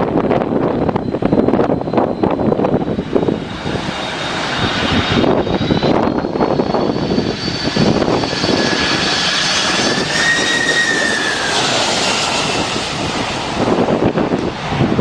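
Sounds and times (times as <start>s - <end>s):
jet engines whining: 0.0s - 15.0s
wind buffeting microphone: 0.0s - 15.0s.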